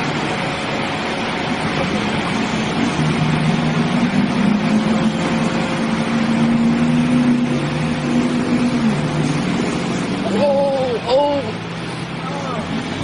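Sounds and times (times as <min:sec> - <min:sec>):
heavy vehicle engine droning: 0:00.0 - 0:13.0
loud rush of noise: 0:00.0 - 0:13.0.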